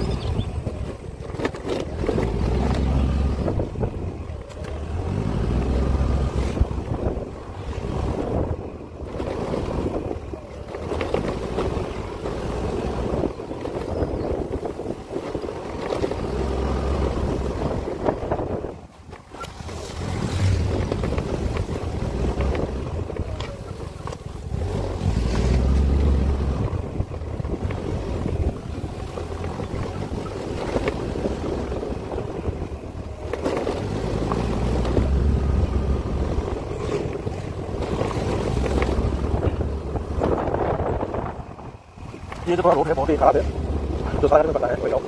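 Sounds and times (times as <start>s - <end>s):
vehicle rumbling on rough road: 0.0s - 45.0s
wind buffeting microphone: 0.0s - 45.0s.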